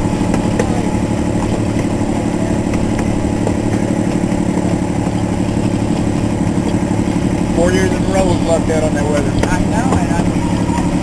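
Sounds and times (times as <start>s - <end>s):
miniature train engine pulsing: 0.0s - 11.0s.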